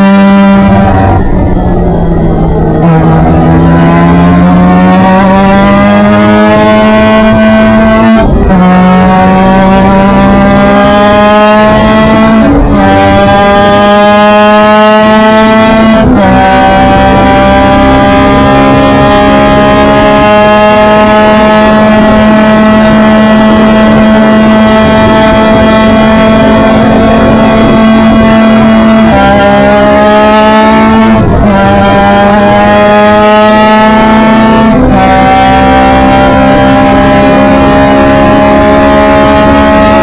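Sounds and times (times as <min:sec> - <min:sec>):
race car engine at full throttle: 0:00.0 - 0:40.0.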